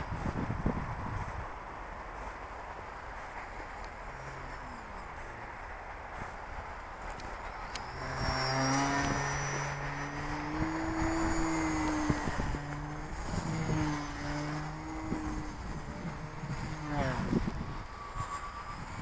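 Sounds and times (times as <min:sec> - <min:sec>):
model plane motor buzzing: 0:00.0 - 0:01.5, 0:03.2 - 0:05.6, 0:06.2 - 0:19.0
wind buffeting microphone: 0:00.0 - 0:19.0.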